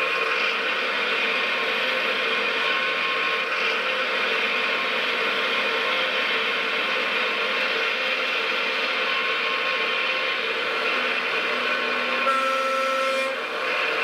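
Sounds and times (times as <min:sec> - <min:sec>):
steady whine: 0:00.0 - 0:14.0.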